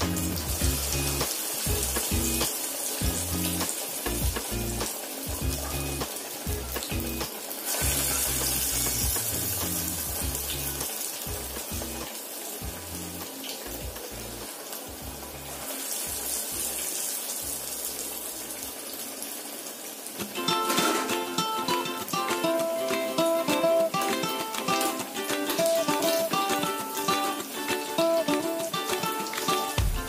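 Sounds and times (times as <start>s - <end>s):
fritters sizzling in hot oil: 0.0s - 30.0s.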